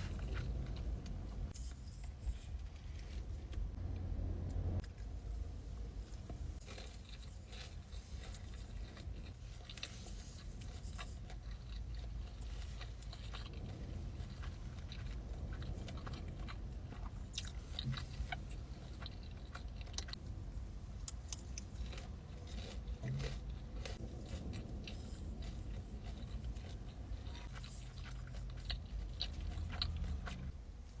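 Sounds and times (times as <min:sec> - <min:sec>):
person chewing food: 0:00.0 - 0:03.7, 0:04.8 - 0:31.0.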